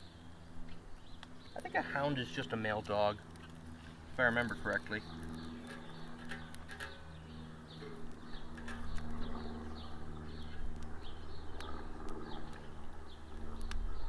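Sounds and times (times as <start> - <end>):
small bird chirping: 0.0 - 14.0
steady low hum: 0.0 - 14.0
twigs snapping and crackling: 1.1 - 1.7, 2.4 - 14.0.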